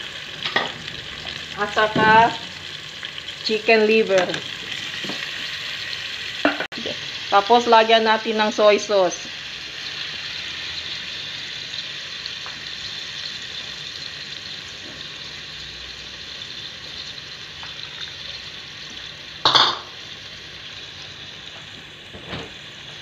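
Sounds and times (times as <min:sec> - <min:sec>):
meat sizzling in oil: 0:00.0 - 0:23.0.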